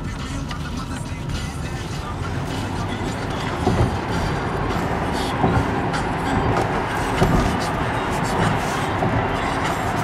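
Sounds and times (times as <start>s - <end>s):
traffic and street noise: 0.0s - 10.0s.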